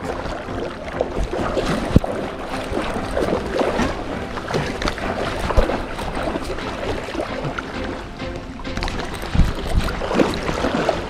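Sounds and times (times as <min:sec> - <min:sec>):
faint music: 0:00.0 - 0:11.0
river water sloshing and splashing: 0:00.0 - 0:11.0.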